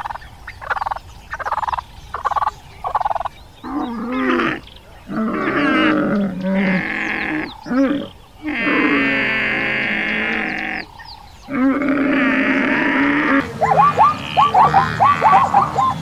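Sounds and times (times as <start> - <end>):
camels calling: 2.2 - 16.0.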